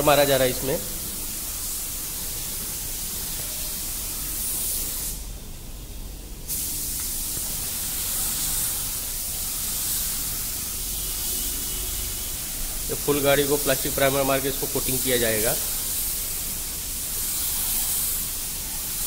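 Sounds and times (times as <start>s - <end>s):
paint spray gun hissing: 0.0s - 5.4s, 6.4s - 19.0s.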